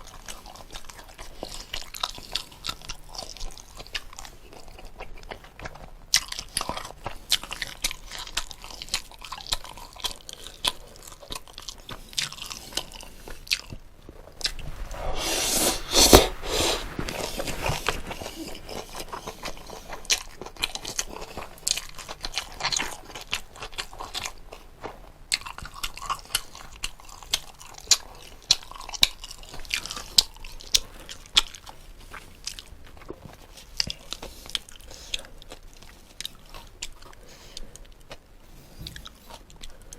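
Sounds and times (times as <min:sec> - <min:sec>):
chewing with crunches: 0:00.0 - 0:39.9.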